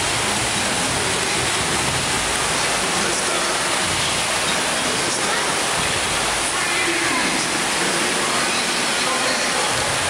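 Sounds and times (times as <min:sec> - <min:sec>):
faint crowd voices: 0:00.0 - 0:10.0
water rushing: 0:00.0 - 0:10.0.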